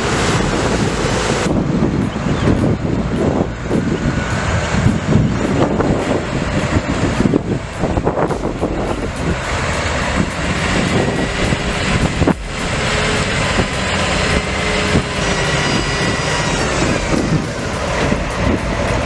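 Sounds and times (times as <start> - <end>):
heavy diesel engine under load: 0.0 - 19.0
steady high whine: 0.0 - 19.0.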